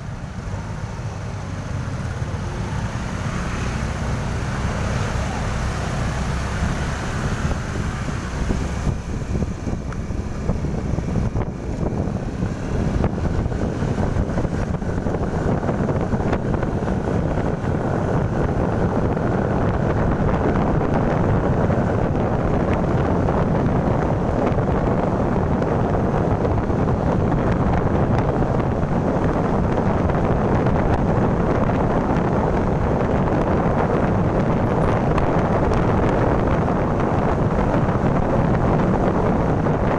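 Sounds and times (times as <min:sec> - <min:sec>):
motorcycle engine: 0:00.0 - 0:39.9
road noise: 0:00.0 - 0:39.9
wind rushing over microphone: 0:00.0 - 0:39.9.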